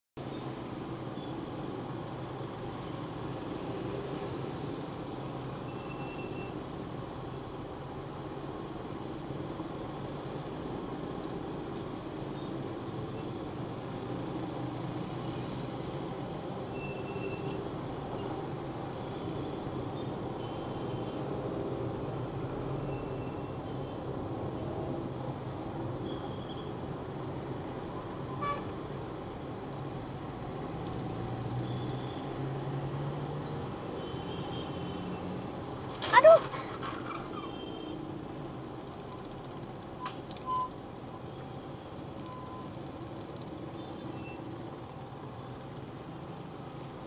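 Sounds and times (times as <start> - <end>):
engine hum and road noise: 0.2 - 47.0.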